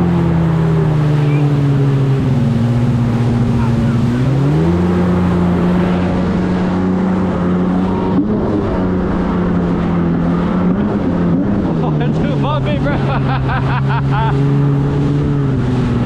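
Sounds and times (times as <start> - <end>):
jet ski engine running: 0.0 - 16.0
steady rushing noise: 0.0 - 16.0.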